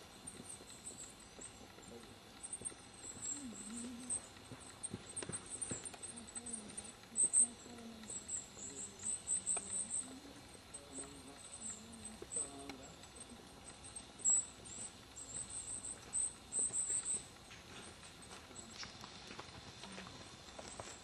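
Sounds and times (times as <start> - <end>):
faint low wavering hum: 0.0 - 21.0
high-pitched insect chirping: 0.0 - 21.0.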